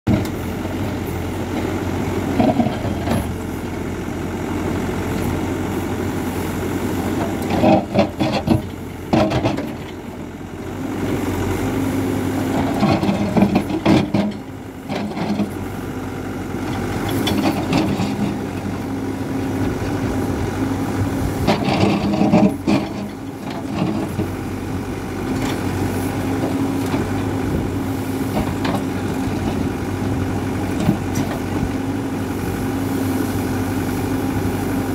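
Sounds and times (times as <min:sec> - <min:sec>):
diesel engine revving: 0:00.0 - 0:34.9.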